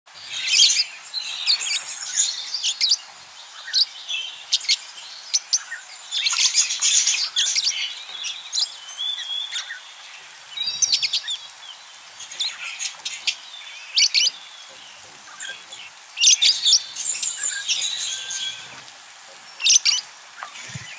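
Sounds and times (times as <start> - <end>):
budgerigars chirping and warbling: 3.6 - 20.9.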